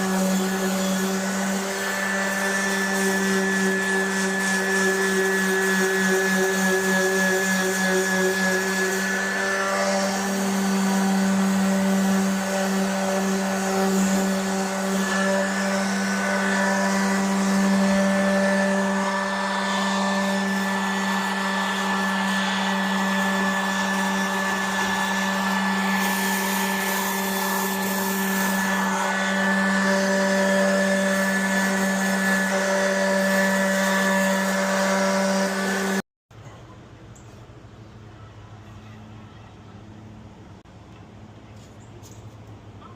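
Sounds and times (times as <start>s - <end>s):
power tool sanding metal: 0.0s - 36.0s.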